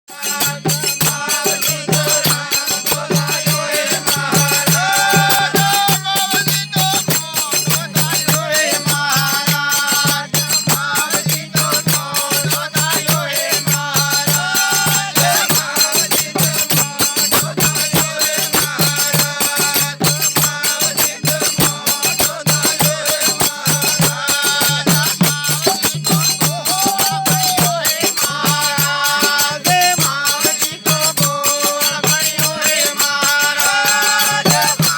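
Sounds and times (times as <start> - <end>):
tambourine jingling: 0.1 - 34.9.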